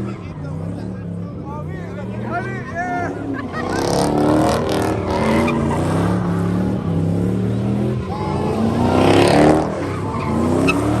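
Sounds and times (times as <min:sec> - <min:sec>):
car engine revving: 0:00.0 - 0:11.0
tyres skidding and squealing: 0:00.0 - 0:11.0.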